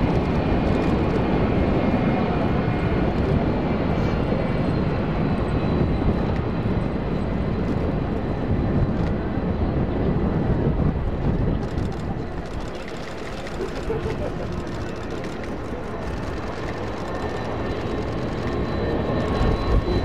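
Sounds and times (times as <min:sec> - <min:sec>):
jet engines at taxi power: 0:00.0 - 0:20.0.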